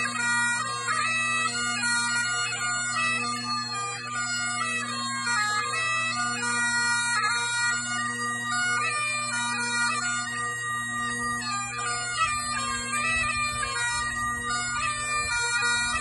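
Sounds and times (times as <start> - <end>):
bagpipe playing: 0.0 - 16.0.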